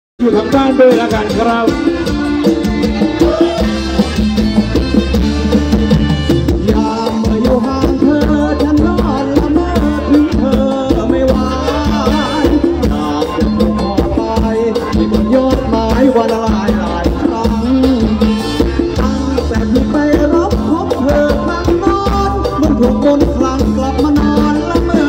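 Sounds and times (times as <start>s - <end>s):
drum kit beat: 0.2s - 25.0s
keyboard melody: 0.2s - 25.0s
live band dance music: 0.2s - 25.0s.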